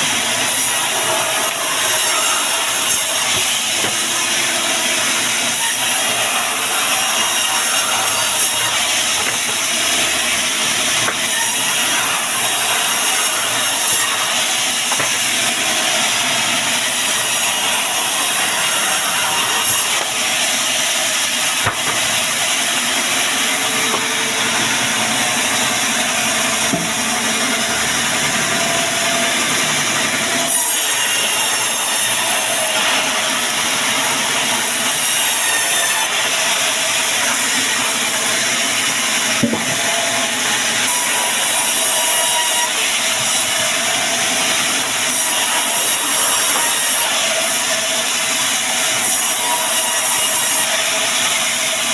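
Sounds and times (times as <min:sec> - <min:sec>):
band saw cutting a log: 0:00.0 - 0:51.9.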